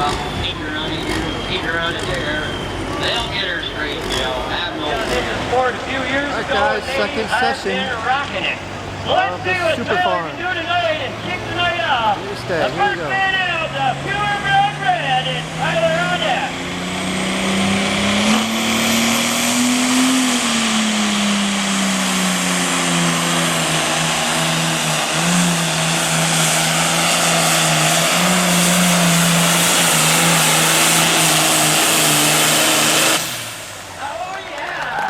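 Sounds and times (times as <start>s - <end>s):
diesel tractor engine revving hard: 0.0s - 34.0s.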